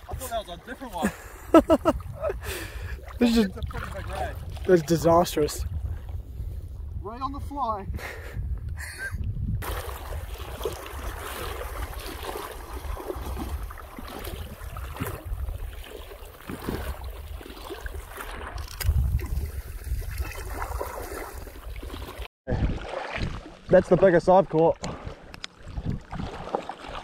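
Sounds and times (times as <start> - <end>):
sea water sloshing and splashing: 0.0 - 6.4, 9.6 - 27.0
wind buffeting microphone: 0.0 - 23.9, 24.8 - 26.5.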